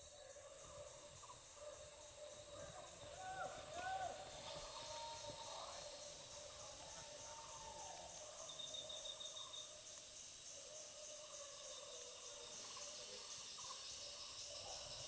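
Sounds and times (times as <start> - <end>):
insect chorus buzzing: 0.0 - 15.0
very high insect chirp: 0.1 - 15.0.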